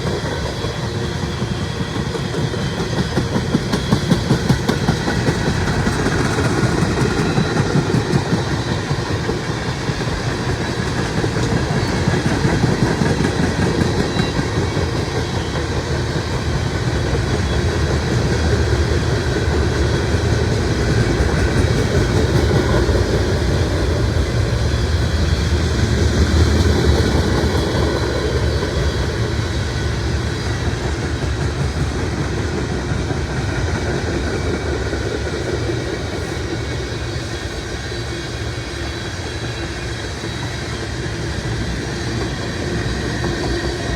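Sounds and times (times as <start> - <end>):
freight train rumbling past: 0.0 - 43.9
wheels clattering on rails: 0.0 - 43.9.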